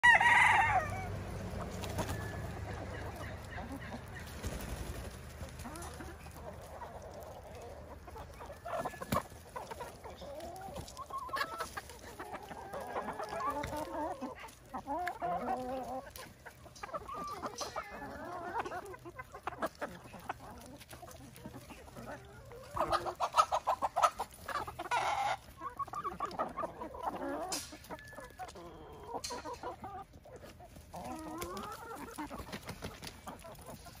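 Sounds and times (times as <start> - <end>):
chickens clucking and calling: 0.0 - 34.0.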